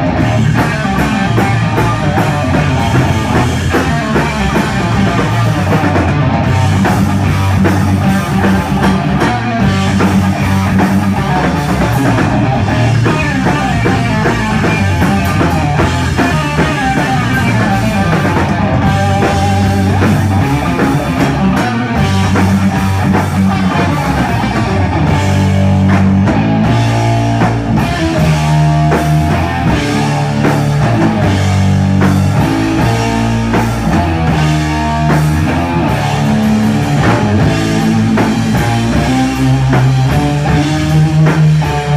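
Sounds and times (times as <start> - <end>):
drum kit: 0.0 - 41.9
electric guitar riffs: 0.0 - 41.9
heavy low riff notes: 0.0 - 41.9.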